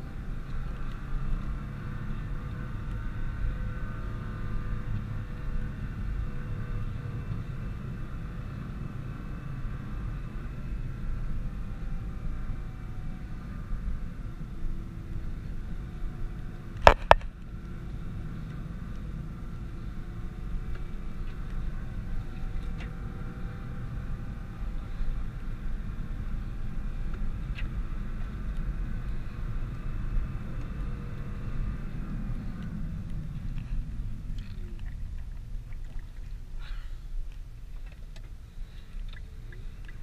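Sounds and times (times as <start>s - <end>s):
car engine and road noise: 0.0s - 40.0s
faint whine tones: 0.0s - 40.0s.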